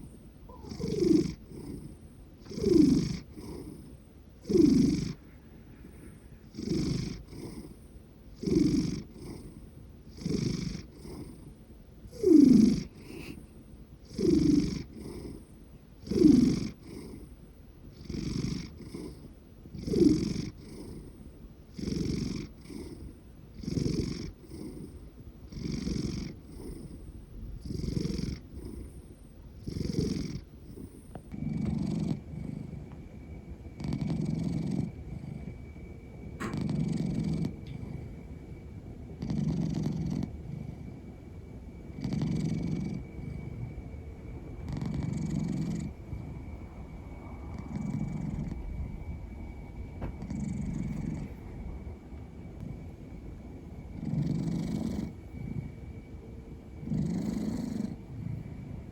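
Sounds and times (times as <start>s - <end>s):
cat snoring and purring: 0.0s - 38.3s, 39.1s - 41.2s, 41.8s - 43.8s, 44.6s - 46.6s, 47.5s - 49.1s, 49.9s - 51.7s, 53.9s - 55.9s, 56.8s - 58.9s.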